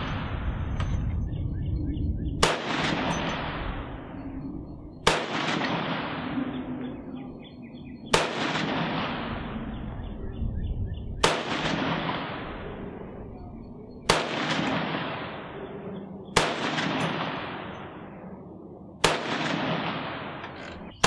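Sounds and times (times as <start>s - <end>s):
rifle shots echoing: 0.0s - 0.9s, 2.4s - 10.0s, 11.2s - 13.3s, 13.9s - 21.0s.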